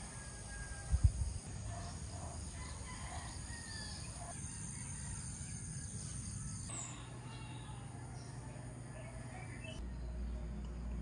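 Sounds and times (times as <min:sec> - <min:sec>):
distant rooster crowing: 0:00.0 - 0:10.2
birds calling: 0:01.7 - 0:11.0.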